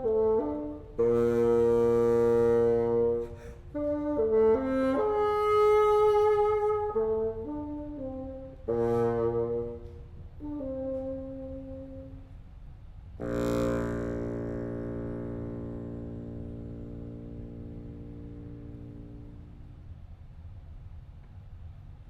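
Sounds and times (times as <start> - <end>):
bassoon playing held notes: 0.0 - 12.3, 13.2 - 19.9.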